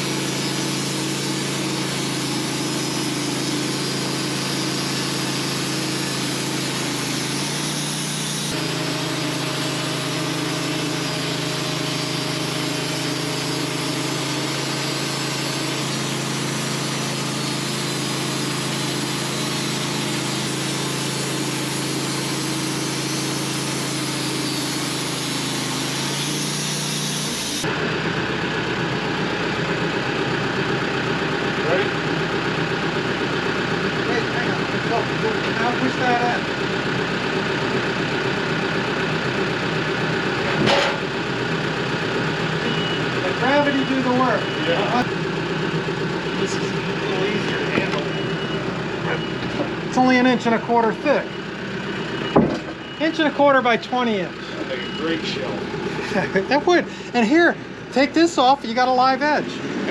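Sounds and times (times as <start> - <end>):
gas engine running: 0.0 - 59.9
saw cutting through log: 0.0 - 59.9.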